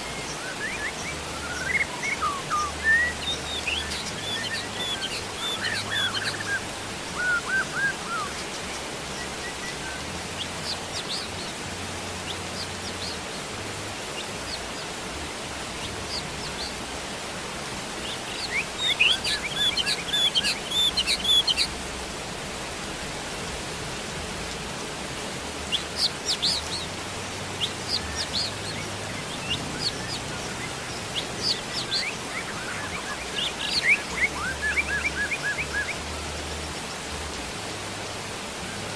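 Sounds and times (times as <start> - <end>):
small birds chirping: 0.0 - 22.1, 23.6 - 38.9
steady rain hiss: 0.0 - 38.9.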